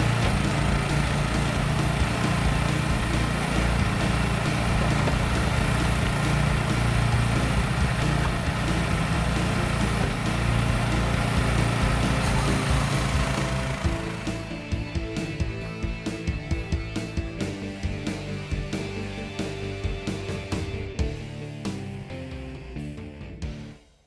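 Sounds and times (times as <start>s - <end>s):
engine running steadily: 0.0s - 21.8s.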